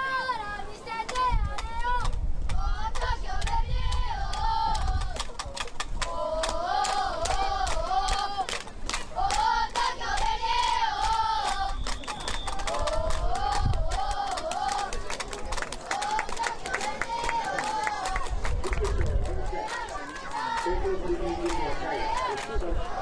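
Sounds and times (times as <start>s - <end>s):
children chanting a cheer: 0.0s - 5.3s, 6.0s - 8.6s, 9.2s - 15.2s, 15.8s - 23.0s
hand claps: 1.0s - 20.8s.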